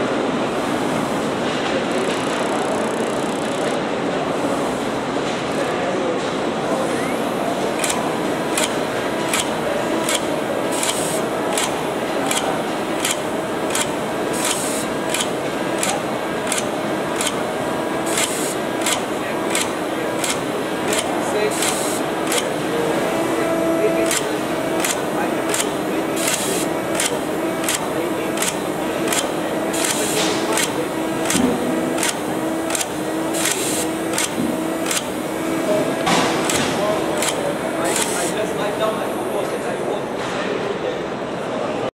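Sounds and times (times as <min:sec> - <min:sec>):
machine hum and whine: 0:00.0 - 0:40.1
gluing machine clicking steadily: 0:01.8 - 0:03.8, 0:07.2 - 0:39.4.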